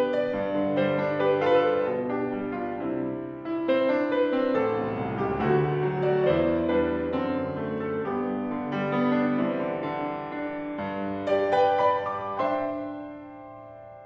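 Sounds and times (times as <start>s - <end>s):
solo piano folk song: 0.0s - 14.0s.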